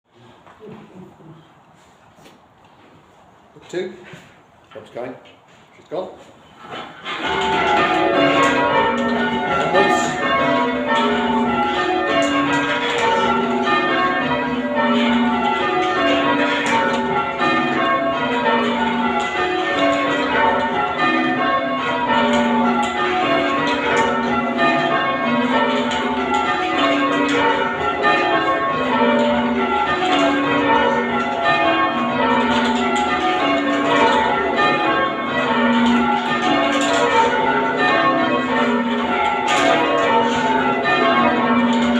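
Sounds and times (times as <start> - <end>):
church bells change ringing: 6.9 - 41.9.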